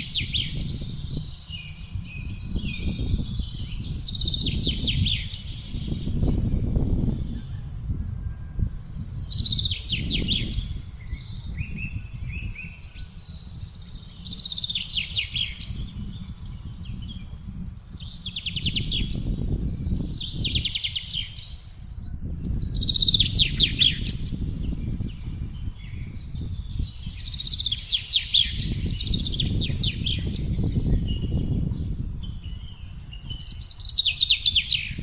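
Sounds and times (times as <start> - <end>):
gusting wind rumble: 0.0 - 35.0
songbird singing: 0.0 - 35.0.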